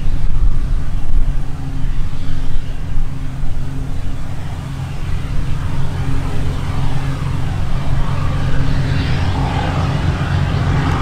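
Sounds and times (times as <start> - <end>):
combine harvester engine drone: 0.0 - 11.0
rushing noise of harvester: 0.0 - 11.0.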